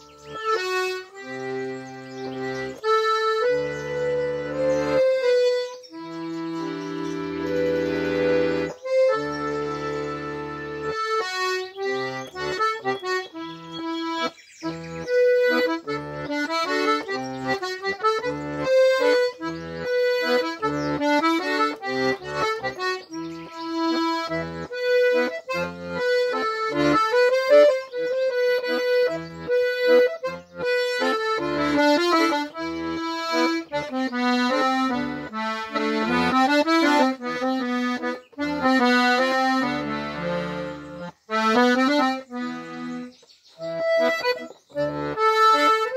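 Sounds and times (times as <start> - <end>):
button accordion waltz: 0.0 - 45.9.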